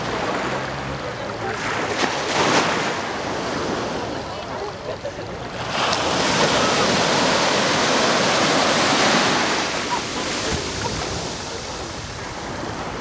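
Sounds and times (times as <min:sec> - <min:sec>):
sea wave breaking in surf: 0:00.0 - 0:04.6, 0:05.5 - 0:13.0.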